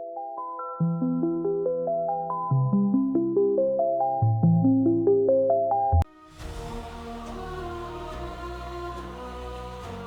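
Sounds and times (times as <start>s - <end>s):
soft music with held tones: 0.0s - 10.0s.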